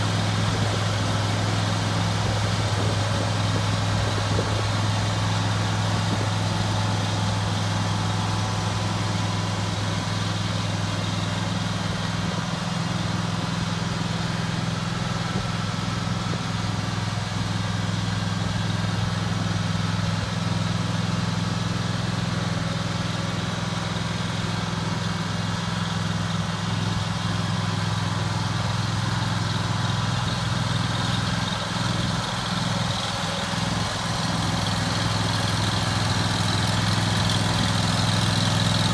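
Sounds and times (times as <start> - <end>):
mower engine running steadily: 0.0 - 38.9.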